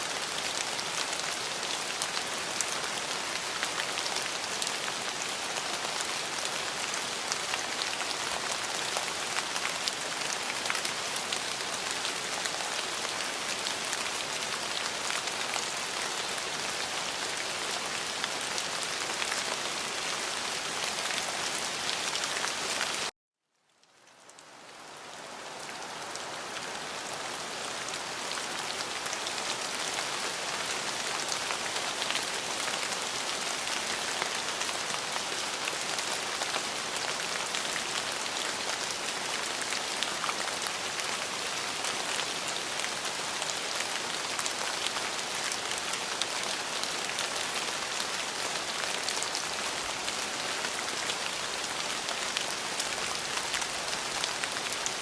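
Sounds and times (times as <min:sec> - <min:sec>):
rain falling on a surface: 0:00.0 - 0:55.0.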